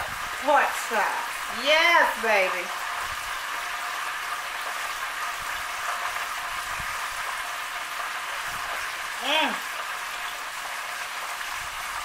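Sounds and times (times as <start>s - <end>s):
meat sizzling in hot grease: 0.0s - 12.0s.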